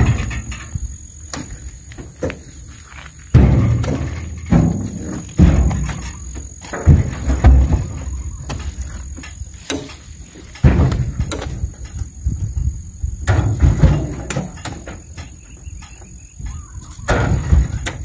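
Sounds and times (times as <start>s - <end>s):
fruit bunches thudding into truck bed: 0.0s - 2.5s, 3.3s - 11.9s, 13.2s - 15.4s, 16.8s - 18.0s.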